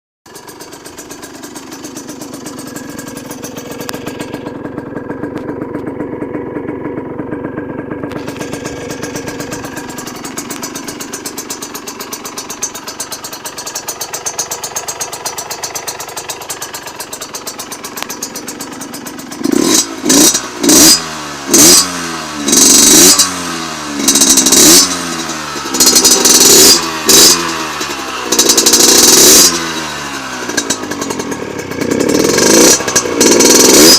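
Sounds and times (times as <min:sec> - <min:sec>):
moped engine idling and revving: 0:00.3 - 0:33.9.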